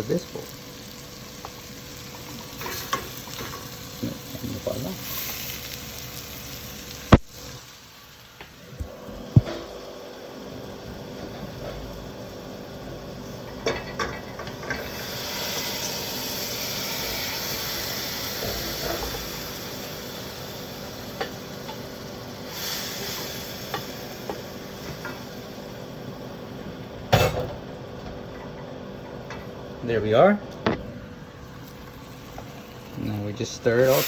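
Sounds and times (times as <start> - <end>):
food sizzling: 0.0 - 29.8, 30.6 - 34.0.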